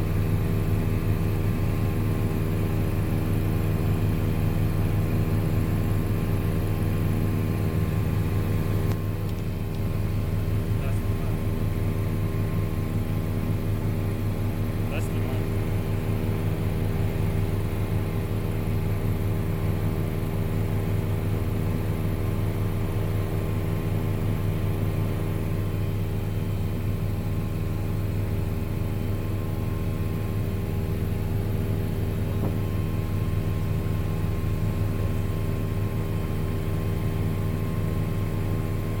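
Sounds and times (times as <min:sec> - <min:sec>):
helicopter engine and rotor drone: 0:00.0 - 0:39.0.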